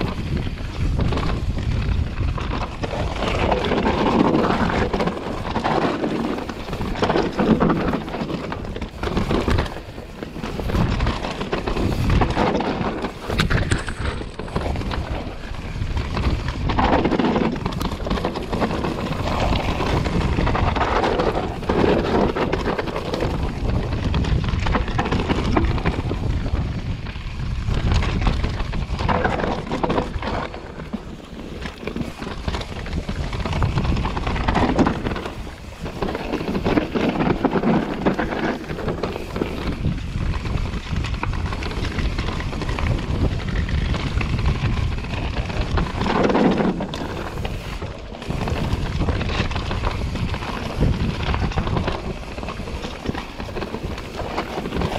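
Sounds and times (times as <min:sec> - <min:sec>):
bike rattling over bumps: 0:00.0 - 0:54.9
wind noise on microphone: 0:00.0 - 0:54.9.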